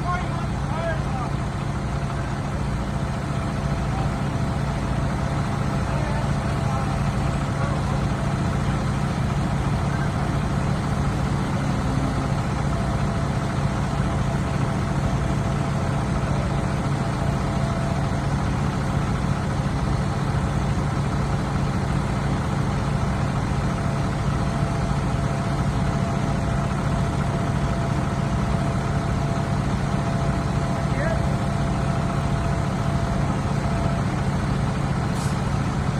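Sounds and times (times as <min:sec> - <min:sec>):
heavy engine idling: 0:00.0 - 0:35.9.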